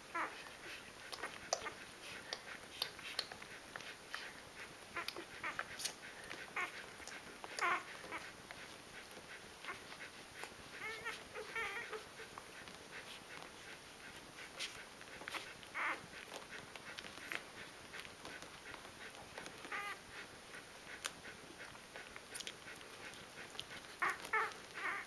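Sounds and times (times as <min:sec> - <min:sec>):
puppy whining: 0:00.0 - 0:25.0
puppies suckling smacks: 0:00.1 - 0:25.0
puppy squeaks and grunts: 0:00.1 - 0:25.0.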